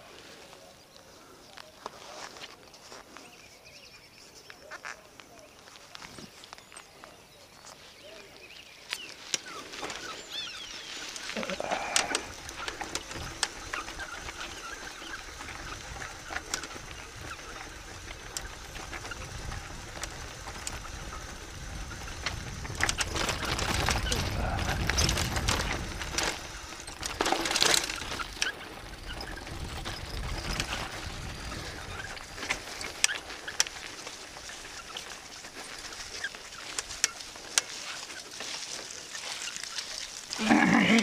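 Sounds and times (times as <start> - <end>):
tyres crunching over stones: 4.4 - 41.0
bike rattling: 5.6 - 41.0.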